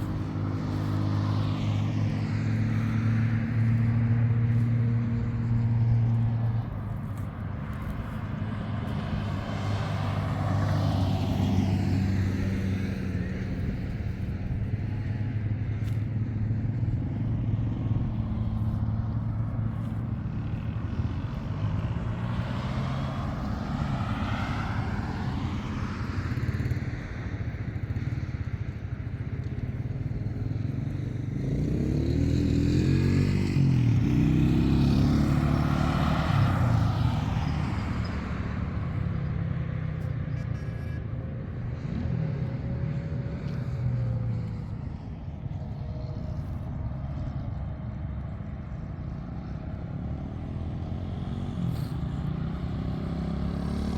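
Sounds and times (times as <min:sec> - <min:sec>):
vehicle engine running and revving: 0:00.0 - 0:53.9.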